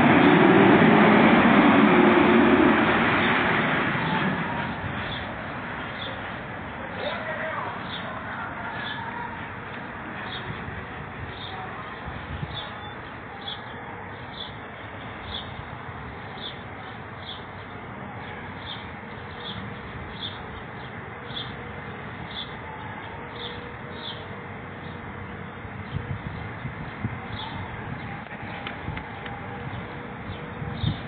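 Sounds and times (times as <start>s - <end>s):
outdoor street noise: 0.0s - 31.0s.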